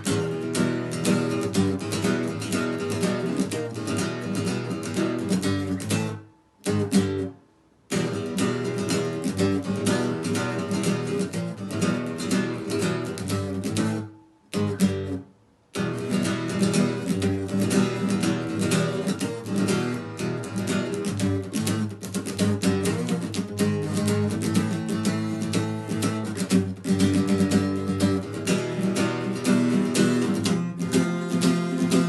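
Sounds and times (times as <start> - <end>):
guitar strumming chords: 0.0 - 32.0.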